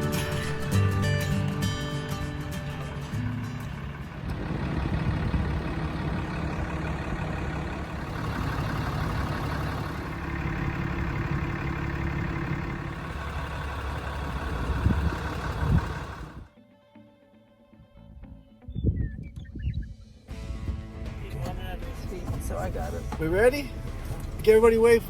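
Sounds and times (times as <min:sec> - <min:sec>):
vehicle engine humming: 0:00.0 - 0:16.5, 0:20.3 - 0:25.0.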